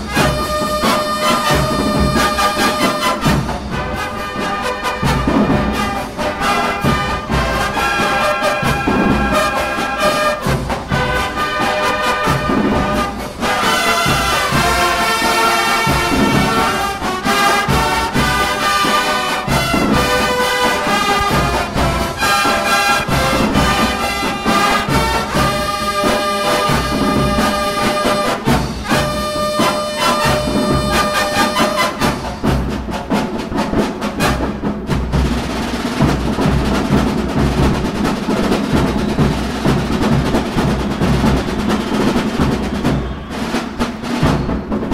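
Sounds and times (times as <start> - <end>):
bugles playing melody: 0.0 - 44.9
drum strokes: 0.0 - 44.9.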